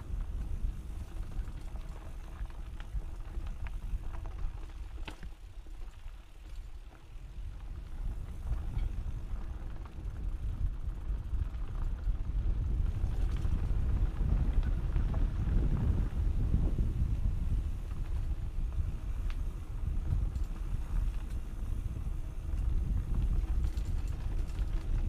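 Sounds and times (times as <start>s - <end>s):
bike clicks and rattles: 0.0s - 25.0s
wind rumbling on microphone: 0.0s - 25.0s.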